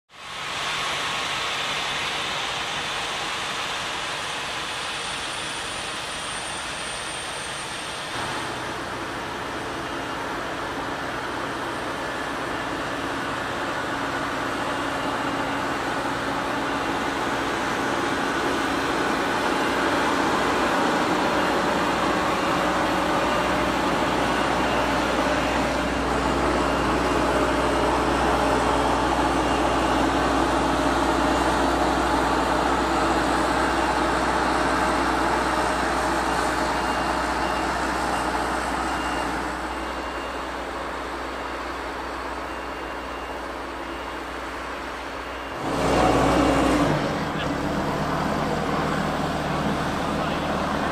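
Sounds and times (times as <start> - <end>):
engine running under load: 0.1 - 50.9.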